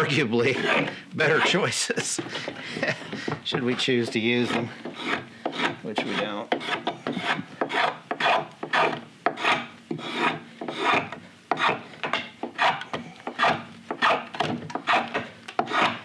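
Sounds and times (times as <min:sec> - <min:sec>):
shave cutting wet wood: 0:00.0 - 0:16.0.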